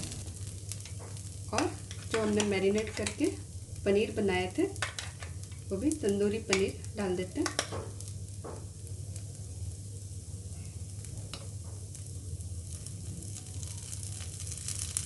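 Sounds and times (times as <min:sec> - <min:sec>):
steady low hum: 0:00.0 - 0:13.6
batter sizzling in a pan: 0:00.0 - 0:15.0.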